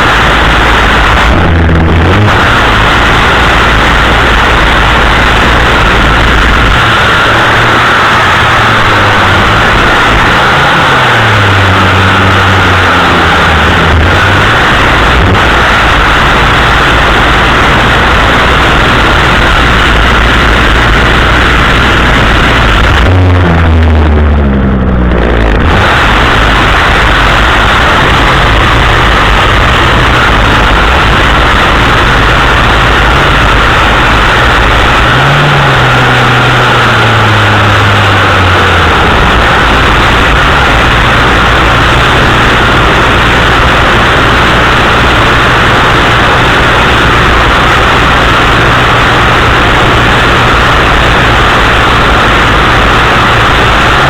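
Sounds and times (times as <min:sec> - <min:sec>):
chainsaw running: 0:00.0 - 0:54.0.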